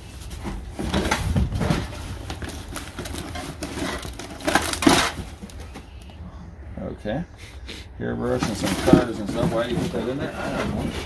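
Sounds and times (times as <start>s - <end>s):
hands rummaging through a box: 0.0s - 6.2s, 8.3s - 11.0s.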